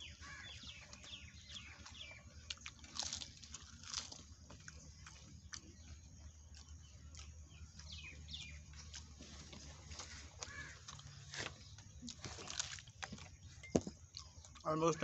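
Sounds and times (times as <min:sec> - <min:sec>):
crunching and chewing pastry: 0:00.0 - 0:15.0
small birds chirping: 0:00.0 - 0:15.0
steady low hum: 0:00.0 - 0:15.0.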